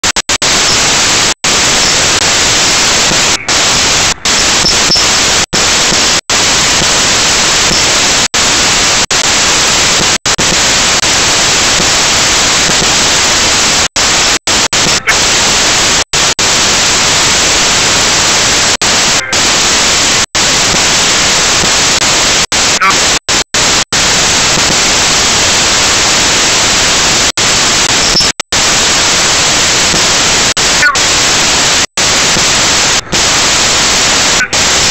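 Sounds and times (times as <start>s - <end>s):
static hiss: 0.0s - 34.9s.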